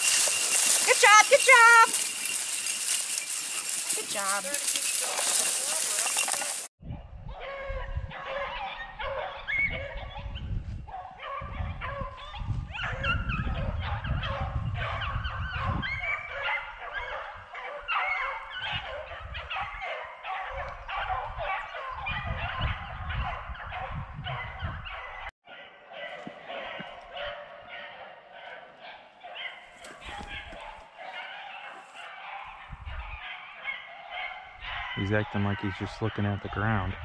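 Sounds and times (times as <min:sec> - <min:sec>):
hounds baying and barking: 0:00.0 - 0:37.0.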